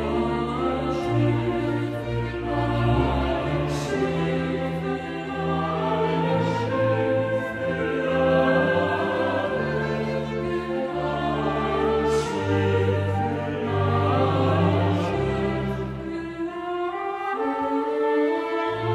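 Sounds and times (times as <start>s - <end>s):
mixed choir singing chords: 0.0s - 18.9s
small orchestra playing: 0.0s - 18.9s.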